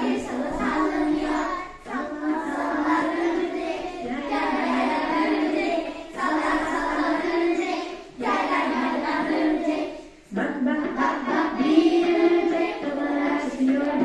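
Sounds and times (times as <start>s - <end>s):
children singing: 0.0s - 14.0s.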